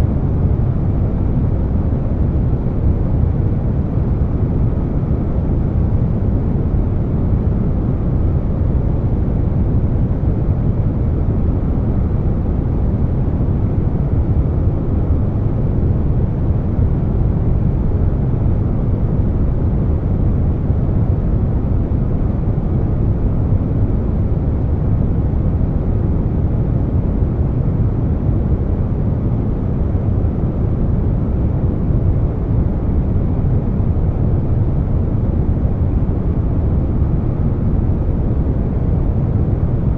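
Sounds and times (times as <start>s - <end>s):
air conditioner noise: 0.0s - 39.9s.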